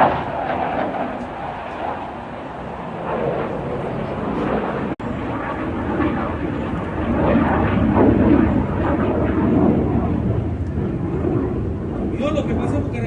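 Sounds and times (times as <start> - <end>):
military aircraft flying over: 0.0 - 13.0.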